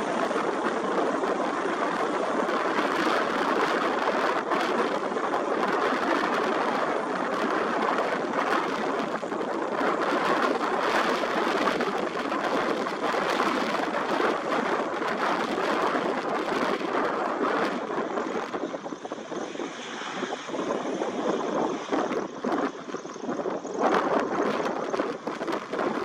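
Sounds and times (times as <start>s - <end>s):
helicopter rotor and turbine noise: 0.0s - 26.0s
high turbine whine: 0.0s - 26.0s.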